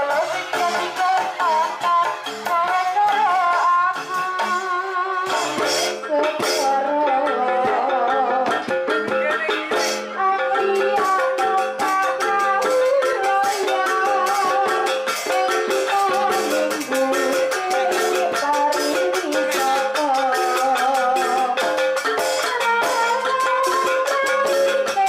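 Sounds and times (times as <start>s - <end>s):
fast rattling percussion: 0.0s - 25.0s
gamelan music: 0.0s - 25.0s.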